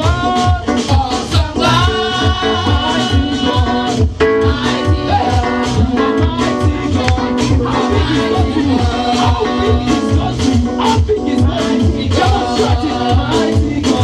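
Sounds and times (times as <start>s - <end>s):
gospel singers singing: 0.0s - 14.0s
instrumental backing with beat: 0.0s - 14.0s.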